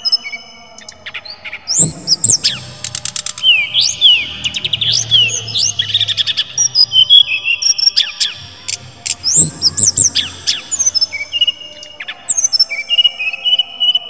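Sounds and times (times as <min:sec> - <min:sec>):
bird singing whistled trills: 0:00.0 - 0:14.0.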